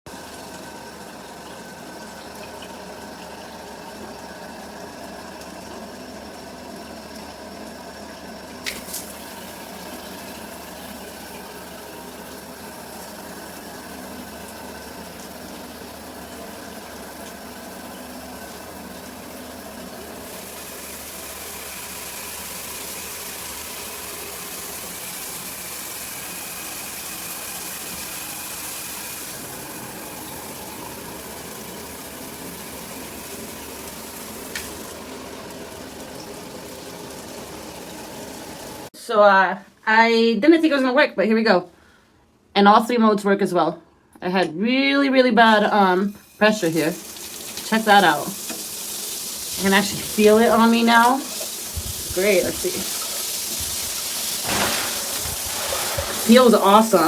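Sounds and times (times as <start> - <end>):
shower water running: 0.1 - 38.9, 45.1 - 57.0.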